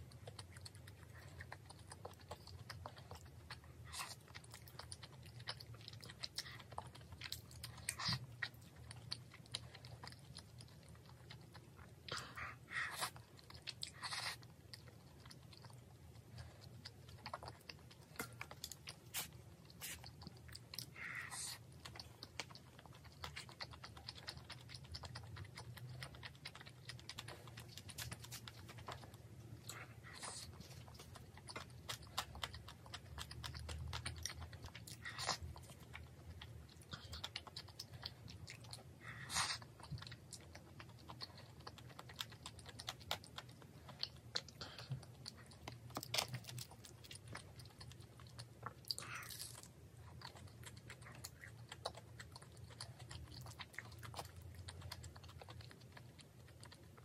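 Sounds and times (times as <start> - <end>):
close-up chewing: 0.0 - 57.0.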